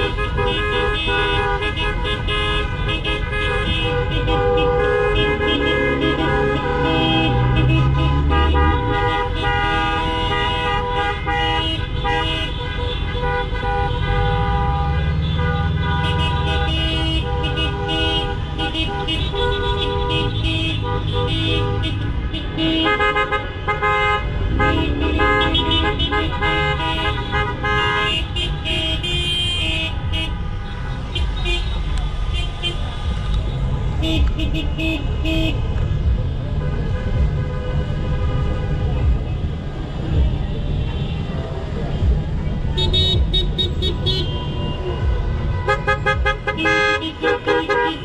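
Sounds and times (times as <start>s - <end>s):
car horns honking: 0.0s - 48.0s.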